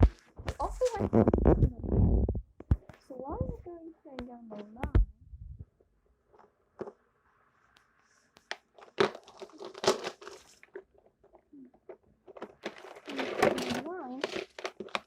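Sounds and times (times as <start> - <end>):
rustling: 0.0 - 3.7, 6.2 - 15.0.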